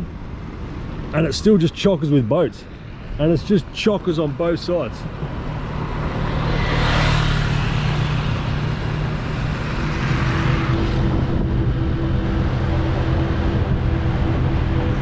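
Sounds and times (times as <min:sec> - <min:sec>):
road and traffic noise: 0:00.0 - 0:15.0
engine running: 0:02.7 - 0:15.0
higher engine tone: 0:02.7 - 0:15.0.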